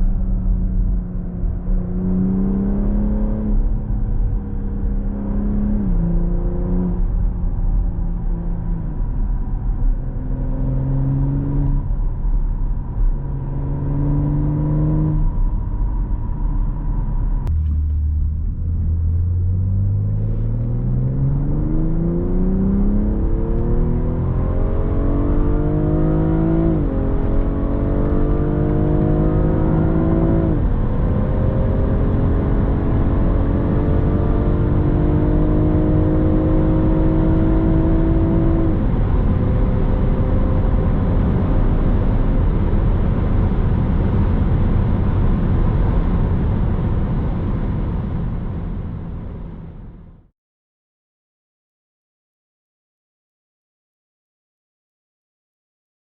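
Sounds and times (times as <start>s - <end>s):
car engine accelerating: 0.0s - 50.3s.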